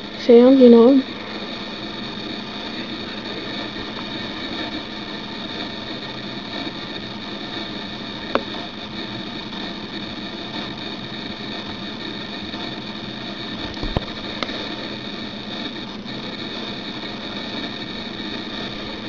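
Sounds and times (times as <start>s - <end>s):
computer fan whirring: 0.0s - 19.0s.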